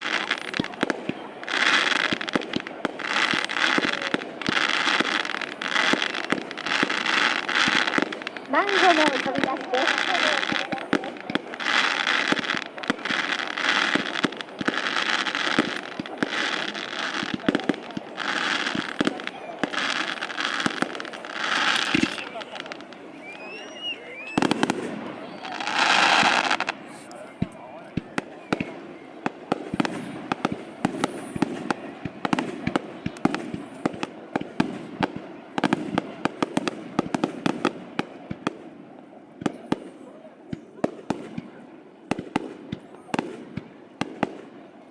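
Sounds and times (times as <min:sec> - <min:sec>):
fireworks crackling hiss: 0:00.0 - 0:38.7
fireworks pops and bangs: 0:00.0 - 0:44.9.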